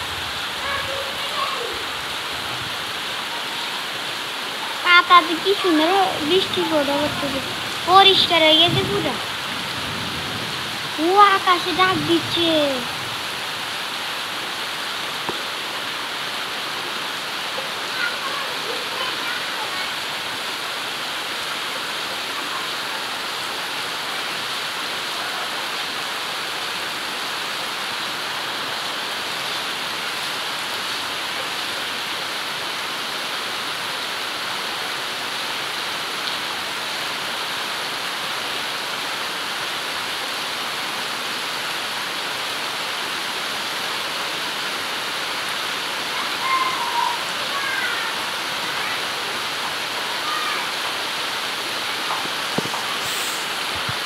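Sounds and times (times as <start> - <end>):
heavy rain on foliage: 0.0 - 54.0.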